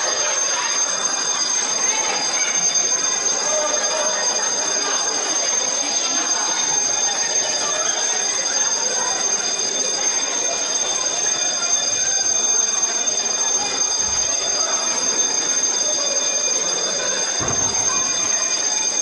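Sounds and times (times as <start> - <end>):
crowd murmur: 0.0 - 19.0
electric alarm bell ringing: 0.0 - 19.0.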